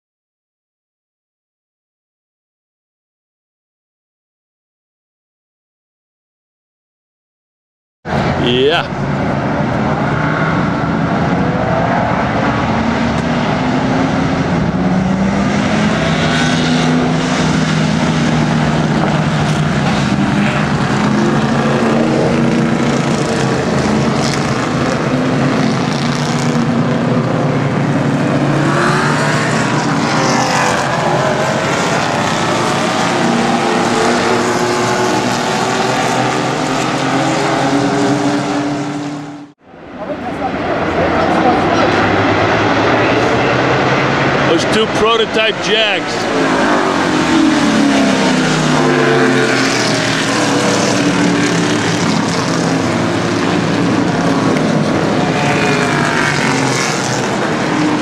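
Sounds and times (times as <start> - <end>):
race car engines passing: 8.1 - 58.0.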